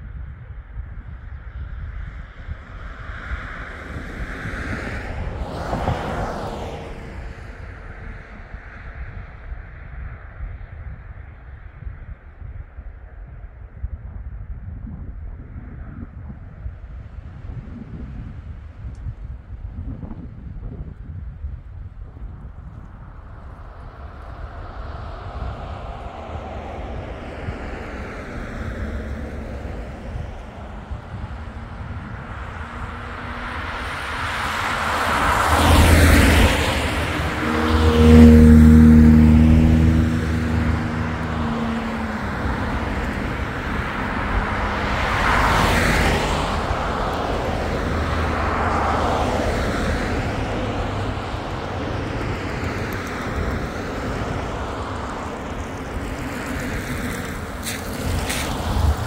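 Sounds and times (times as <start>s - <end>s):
vehicles passing by: 0.7s - 12.4s, 15.4s - 59.0s.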